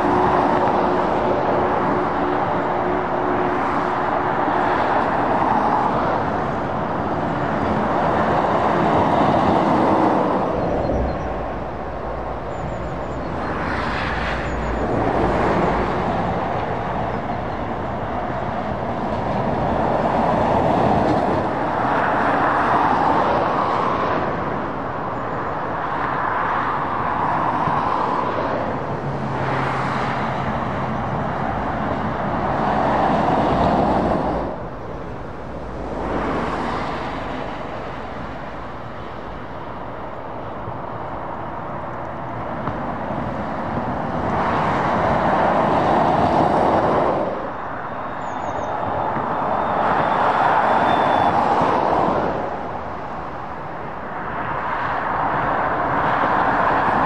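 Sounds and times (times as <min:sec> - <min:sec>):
lorries and cars passing: 0:00.0 - 0:57.0.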